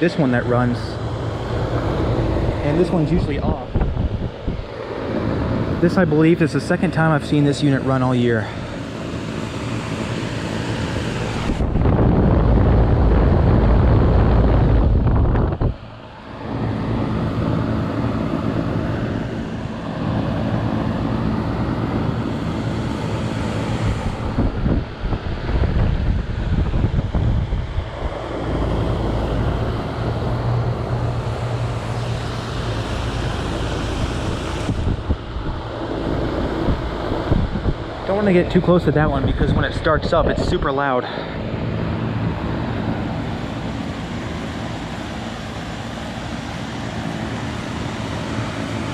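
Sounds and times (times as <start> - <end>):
air conditioner running: 0.0 - 48.9
wind noise on microphone: 0.3 - 7.6, 8.6 - 48.9.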